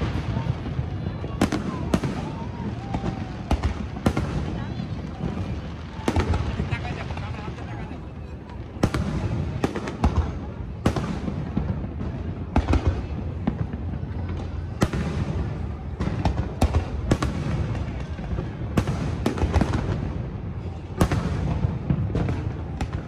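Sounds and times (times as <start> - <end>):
firework bangs: 0.0 - 23.0.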